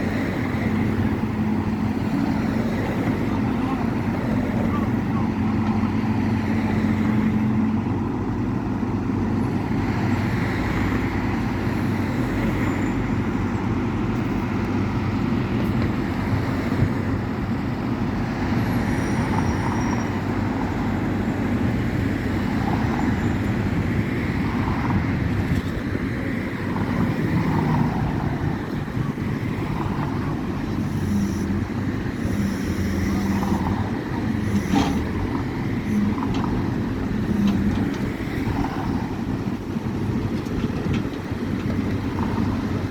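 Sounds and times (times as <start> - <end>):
car engine: 0.0 - 42.9
tyre road noise: 0.0 - 42.9.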